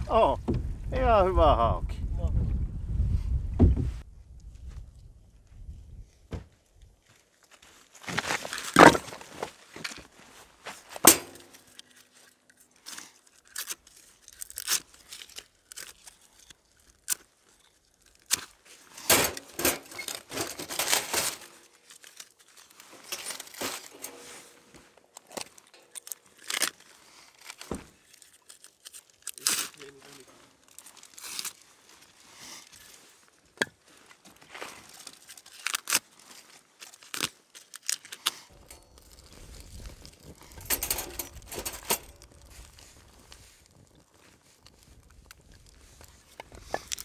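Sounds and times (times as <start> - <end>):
crinkling and rustling: 6.4 - 47.0.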